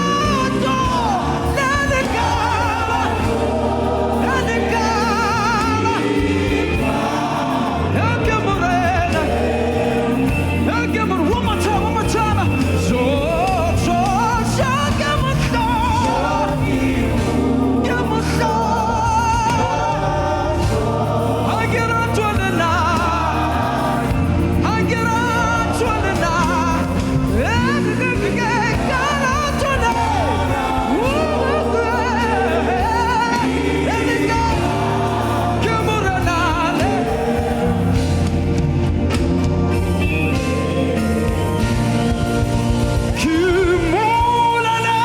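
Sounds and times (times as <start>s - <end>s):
band with sustained bass: 0.0s - 45.0s
person singing with vibrato: 0.0s - 45.0s.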